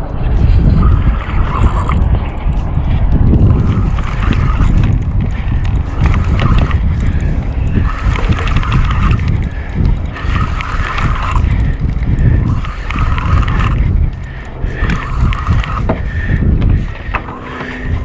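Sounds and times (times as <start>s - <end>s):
fishing reel being cranked: 0.0s - 18.0s
wind noise on microphone: 0.0s - 18.0s.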